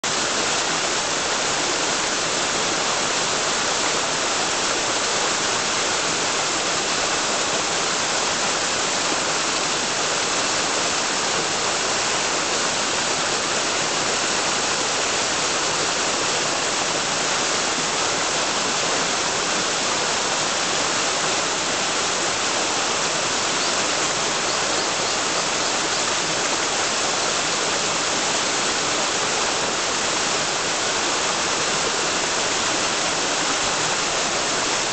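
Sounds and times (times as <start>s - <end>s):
waterfall rushing over rocks: 0.0s - 34.9s.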